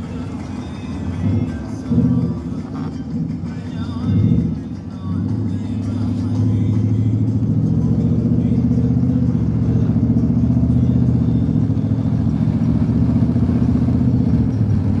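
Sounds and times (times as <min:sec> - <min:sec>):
pickup truck engine drone: 0:00.0 - 0:15.0.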